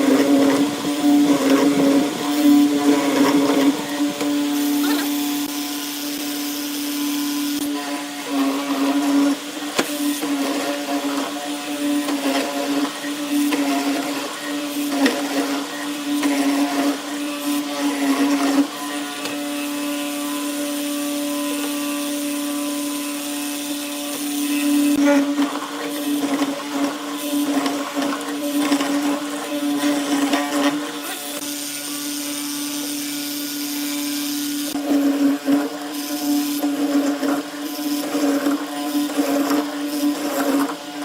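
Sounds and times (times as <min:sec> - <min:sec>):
power tool motor running: 0:00.0 - 0:41.0.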